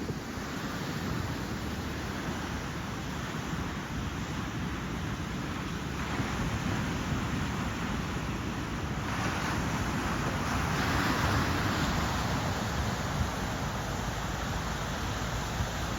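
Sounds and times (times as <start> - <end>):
ocean waves breaking: 0.0 - 15.9.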